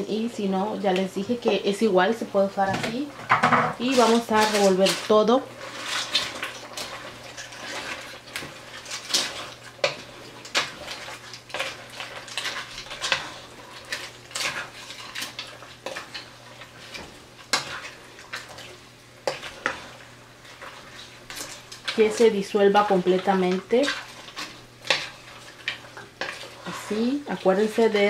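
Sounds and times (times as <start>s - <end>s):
wooden spoon scraping a pot: 2.7s - 28.0s.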